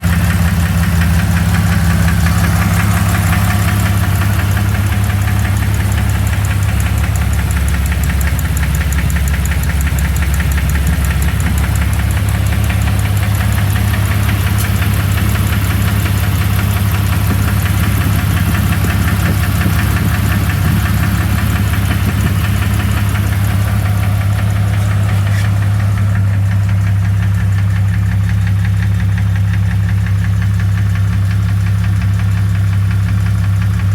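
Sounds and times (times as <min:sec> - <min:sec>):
car engine running: 0:00.0 - 0:33.9
engine knocking: 0:00.0 - 0:33.9.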